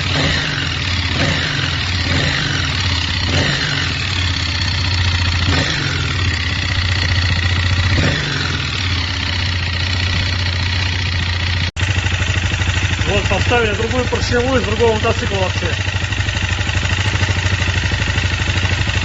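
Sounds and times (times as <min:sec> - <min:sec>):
engine knocking: 0:00.0 - 0:19.0
motorcycle engine idling: 0:00.0 - 0:19.0.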